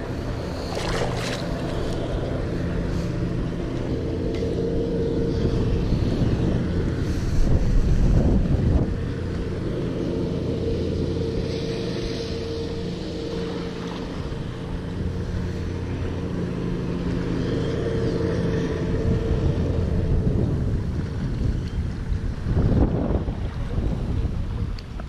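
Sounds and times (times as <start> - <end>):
steady low hum: 0.0 - 25.0
wind buffeting microphone: 0.0 - 25.0.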